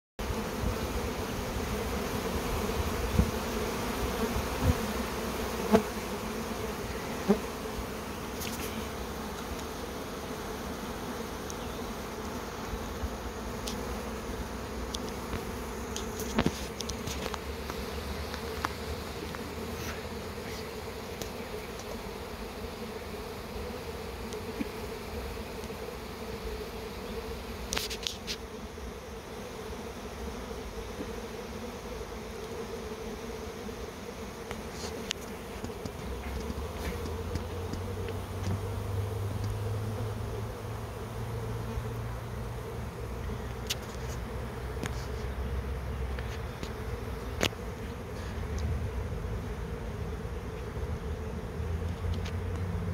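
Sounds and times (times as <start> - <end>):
bee swarm buzzing: 0.2 - 52.9.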